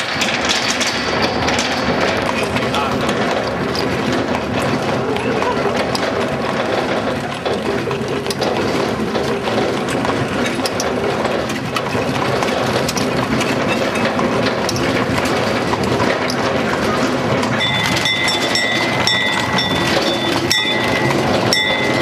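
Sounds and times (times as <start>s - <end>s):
wooden wagon rattling: 0.0s - 22.0s.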